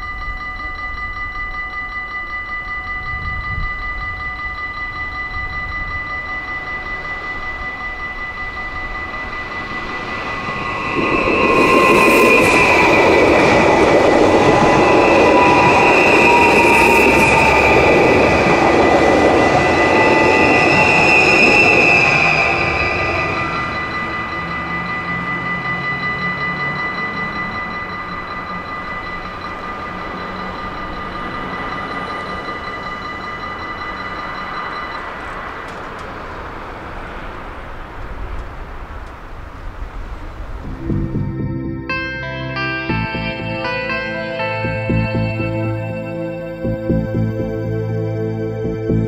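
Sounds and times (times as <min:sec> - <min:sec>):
train wheels rumbling and squealing: 0:00.0 - 0:41.3
level-crossing warning bells: 0:00.0 - 0:49.0.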